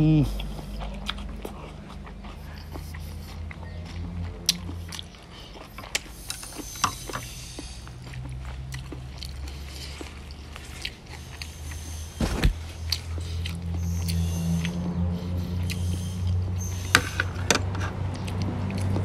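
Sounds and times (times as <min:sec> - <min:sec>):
chewing and lip-smacking: 0:00.2 - 0:19.0.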